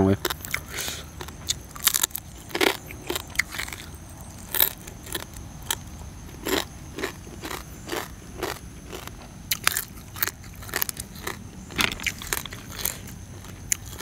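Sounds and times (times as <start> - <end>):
person chewing crunchy food: 0.1 - 14.0.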